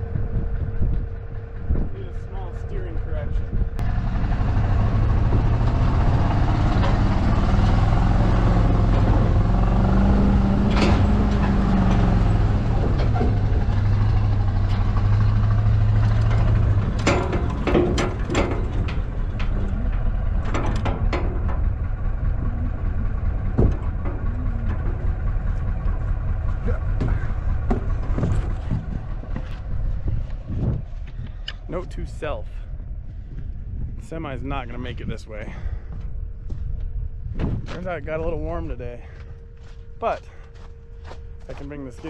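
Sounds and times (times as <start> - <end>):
heavy vehicle engine running: 0.0 - 42.0
trailer rattling and clanking: 0.0 - 42.0.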